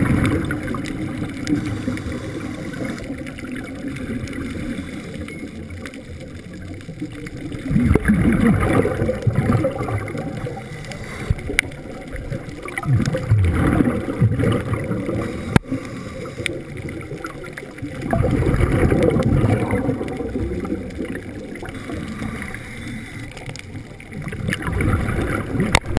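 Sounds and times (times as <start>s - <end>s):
underwater exhaust bubbles rushing: 0.0s - 26.0s.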